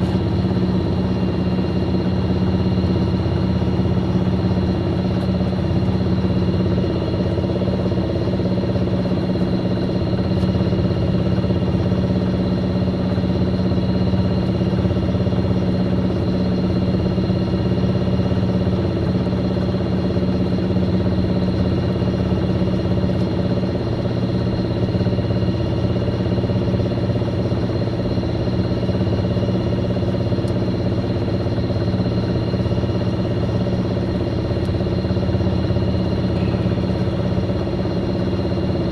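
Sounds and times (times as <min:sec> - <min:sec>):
washing machine motor hum: 0:00.0 - 0:38.9.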